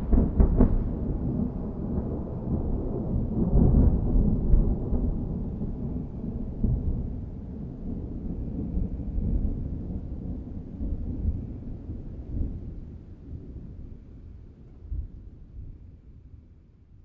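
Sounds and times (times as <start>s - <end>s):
rolling thunder: 0.0s - 13.8s.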